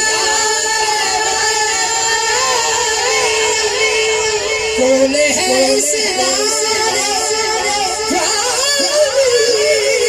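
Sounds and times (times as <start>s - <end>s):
man singing: 0.0s - 10.0s.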